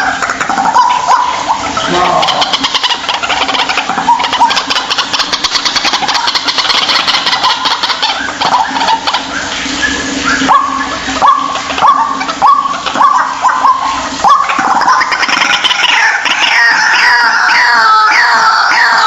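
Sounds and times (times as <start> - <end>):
waterhen harsh calls: 0.0 - 19.0.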